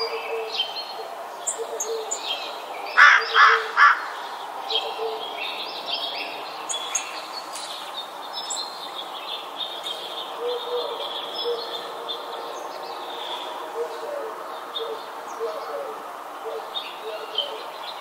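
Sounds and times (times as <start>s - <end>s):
harsh bird calls: 0.0s - 18.0s.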